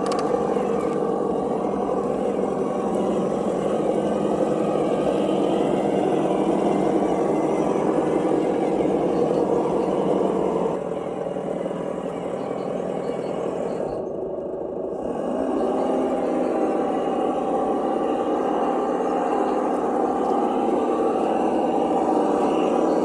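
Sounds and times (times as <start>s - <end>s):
simulated engine sound from speaker: 0.0s - 23.0s.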